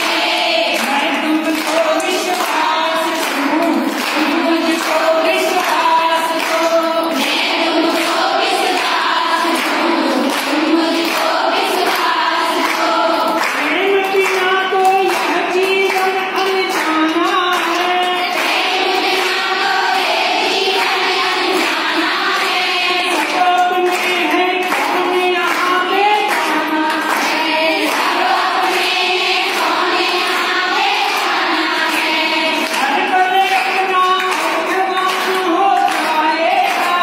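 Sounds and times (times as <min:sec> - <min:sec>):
women singing together: 0:00.0 - 0:37.0.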